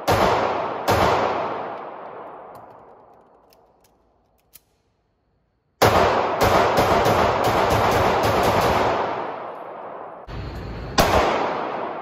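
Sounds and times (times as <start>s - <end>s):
pistol shots echoing indoors: 0.0s - 12.0s.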